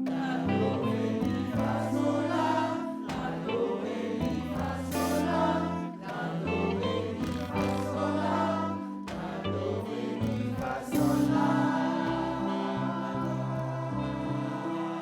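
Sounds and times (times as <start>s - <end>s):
bass line: 0.0s - 15.0s
group of voices singing: 0.0s - 15.0s.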